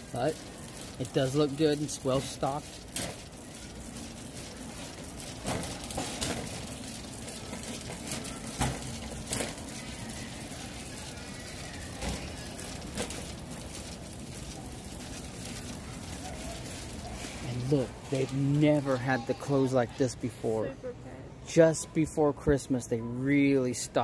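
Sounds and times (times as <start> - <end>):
metal shopping cart rattling: 0.0 - 20.5
crowded store background noise: 0.0 - 24.0.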